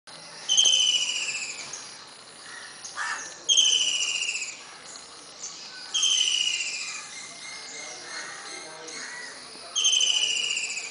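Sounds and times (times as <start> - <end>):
woodpecker rattling calls: 0.5 - 10.9.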